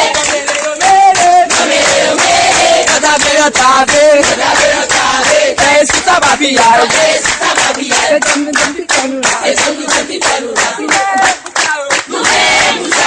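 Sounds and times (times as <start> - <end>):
group of people singing: 0.0 - 13.0
hands clapping in rhythm: 0.0 - 13.0.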